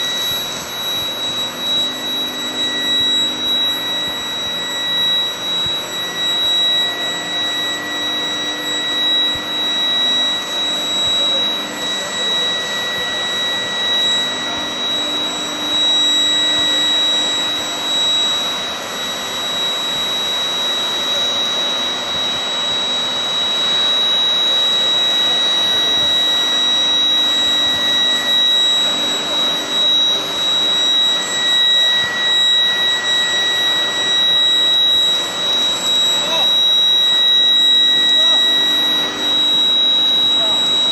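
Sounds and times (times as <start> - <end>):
broad rushing machine noise: 0.0 - 40.9
high-pitched induction heater whine: 0.0 - 40.9.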